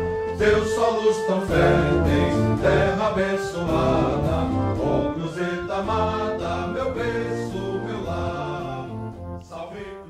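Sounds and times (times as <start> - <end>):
choir singing with accompaniment: 0.0 - 10.0.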